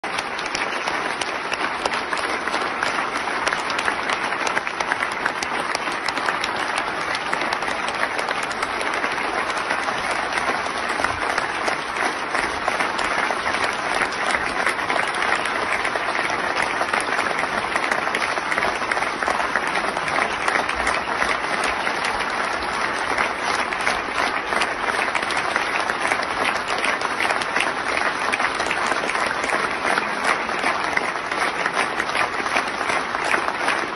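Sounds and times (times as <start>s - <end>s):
crowd applauding: 0.0s - 33.9s.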